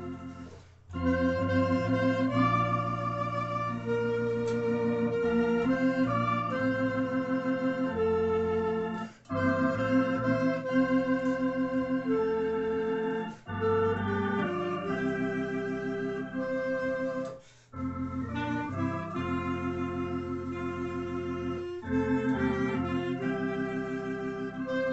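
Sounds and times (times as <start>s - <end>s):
clarinet melody: 0.0s - 24.9s
held organ chords: 0.0s - 24.9s.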